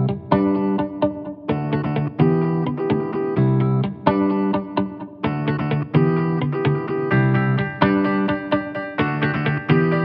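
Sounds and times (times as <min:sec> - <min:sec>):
plucked guitar notes: 0:00.0 - 0:10.0.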